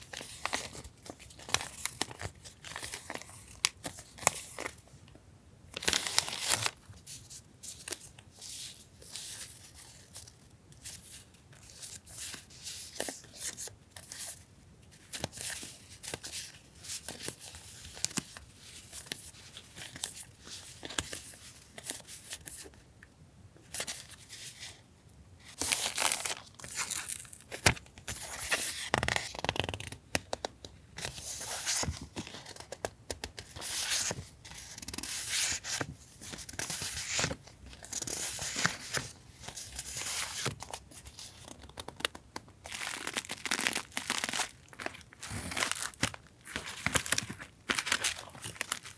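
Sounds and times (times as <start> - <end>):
paper crinkling and rustling: 0.0 - 4.8, 5.8 - 22.7, 25.5 - 48.9.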